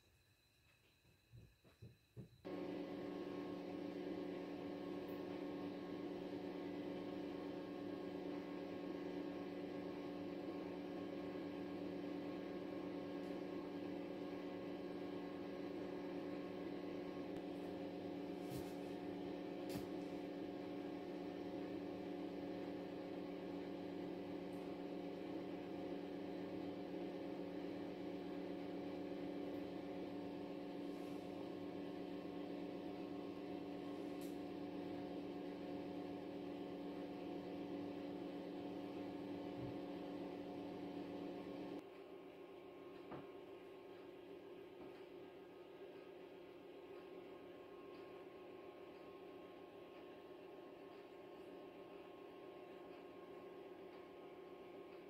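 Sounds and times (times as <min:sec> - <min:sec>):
electric oven humming: 0:01.2 - 0:55.0.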